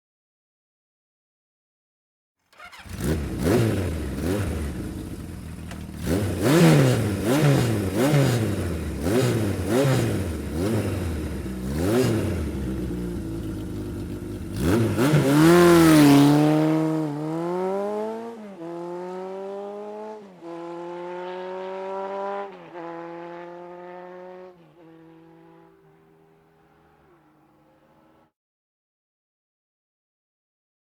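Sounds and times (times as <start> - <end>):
motorcycle engine revving: 2.6 - 28.3
motorcycle passing and accelerating: 2.6 - 28.3.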